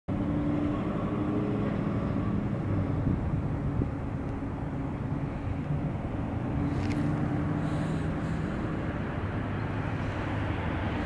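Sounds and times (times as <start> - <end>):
vehicle engines rumbling: 0.1 - 11.0.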